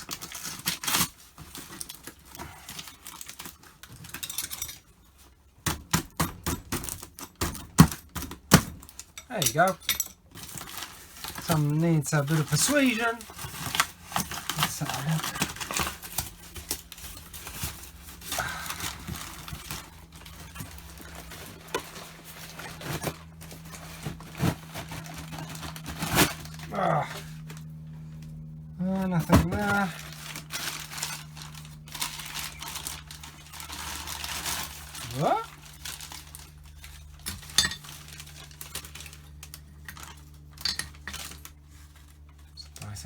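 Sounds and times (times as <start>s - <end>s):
packaging rustling and crackling: 0.0s - 5.4s, 6.5s - 43.0s
steady low hum: 6.5s - 43.0s.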